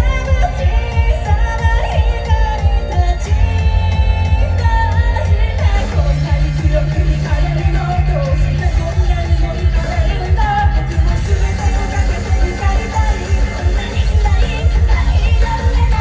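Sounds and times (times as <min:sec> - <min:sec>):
live band music: 0:00.0 - 0:16.0
person singing: 0:00.0 - 0:16.0.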